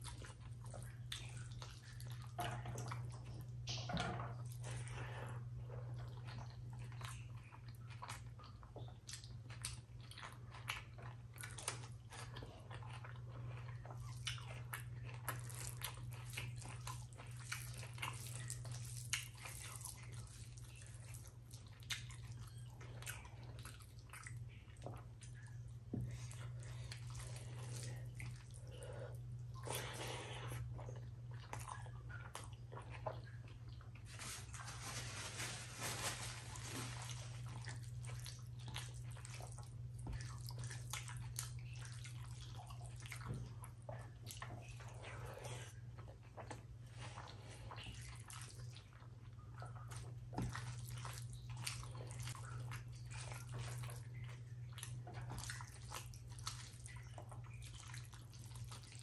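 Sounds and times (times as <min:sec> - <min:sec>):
close chewing: 0:04.5 - 0:28.9, 0:29.5 - 0:59.0
steady low hum: 0:11.3 - 0:59.0.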